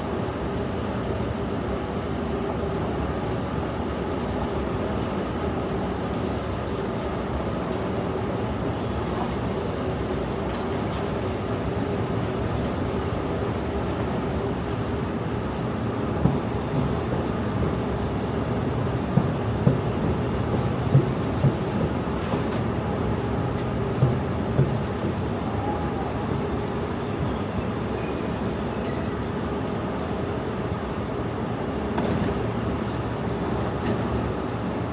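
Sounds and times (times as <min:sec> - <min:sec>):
underground train rumbling: 0:00.0 - 0:34.9.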